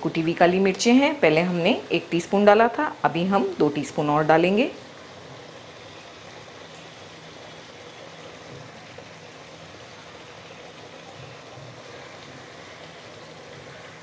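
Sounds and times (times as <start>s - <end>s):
curry bubbling: 0.0s - 14.0s.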